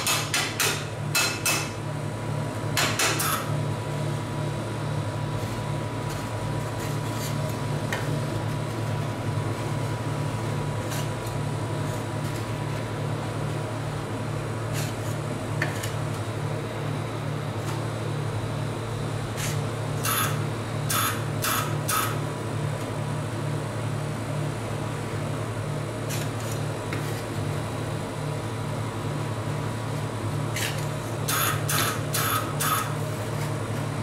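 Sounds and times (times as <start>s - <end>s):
refrigeration unit hum: 0.0s - 34.0s.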